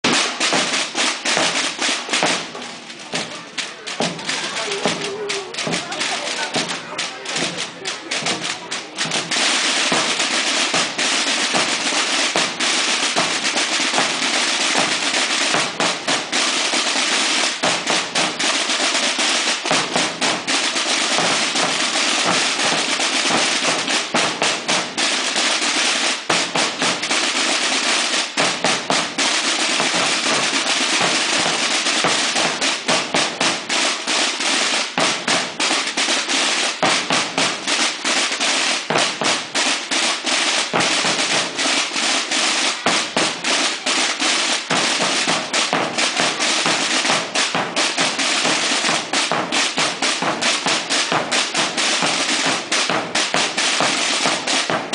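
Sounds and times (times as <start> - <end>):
accented drum strokes: 0.0 - 54.9
snare drums rolling: 0.0 - 54.9.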